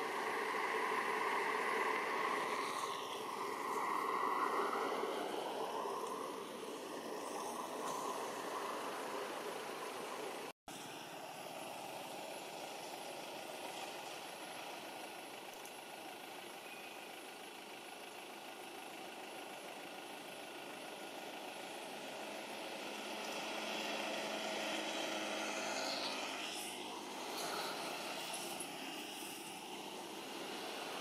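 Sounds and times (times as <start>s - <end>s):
distant traffic hum: 0.0s - 31.0s
vehicle engine running: 0.0s - 31.0s.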